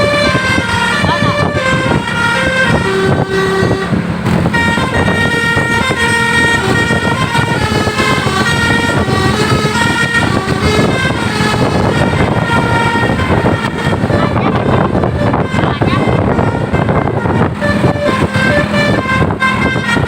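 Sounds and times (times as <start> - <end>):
engine and road noise: 0.0 - 20.0
multi-tone bus horns playing melody: 0.0 - 20.0.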